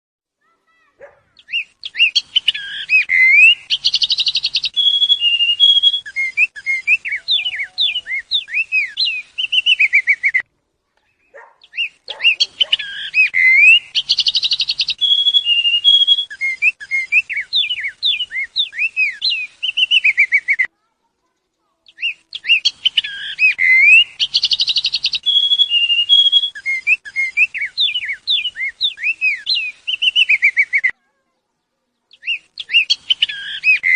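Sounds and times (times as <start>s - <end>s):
songbird singing: 0.4s - 33.9s.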